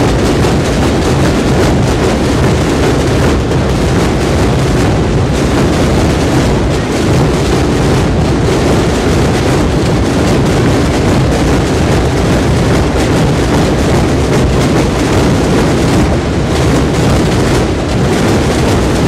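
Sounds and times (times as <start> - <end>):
massed drums rumbling: 0.0 - 19.0.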